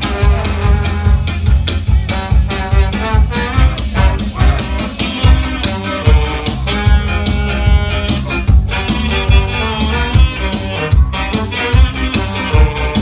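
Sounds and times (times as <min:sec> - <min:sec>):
ska-punk band playing: 0:00.0 - 0:13.0.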